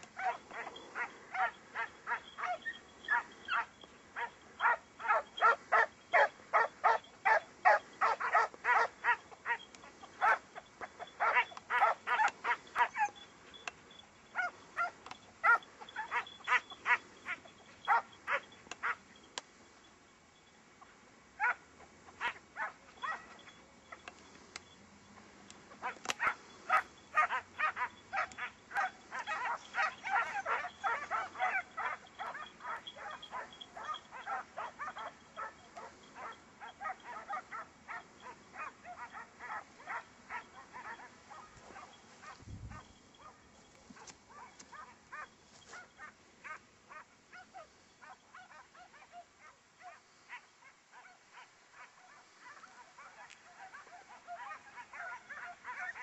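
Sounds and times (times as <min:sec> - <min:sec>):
hounds baying: 0:00.0 - 0:19.2, 0:20.8 - 0:56.0.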